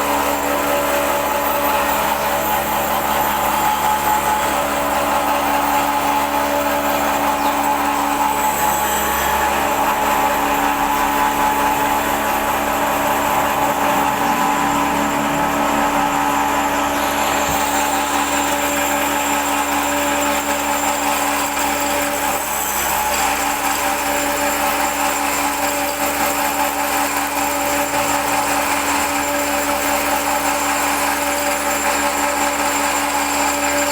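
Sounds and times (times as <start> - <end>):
electric motor whining: 0.0 - 29.9.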